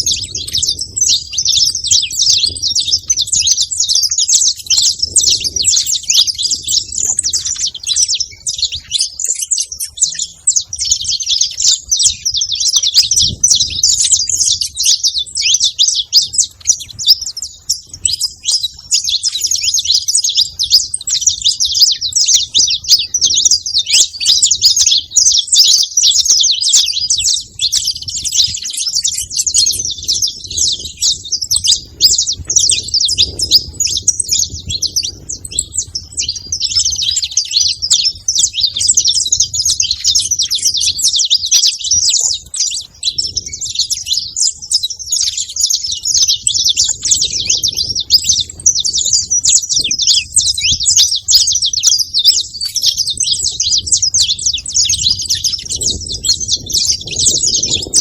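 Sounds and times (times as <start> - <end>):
finch chirping and singing: 0.0 - 58.0.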